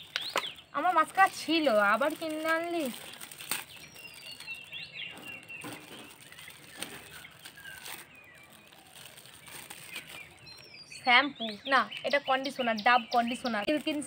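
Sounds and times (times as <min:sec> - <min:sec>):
wrapping paper crinkling and tearing: 0:00.0 - 0:10.8, 0:13.2 - 0:14.0
birds chirping: 0:00.0 - 0:14.0.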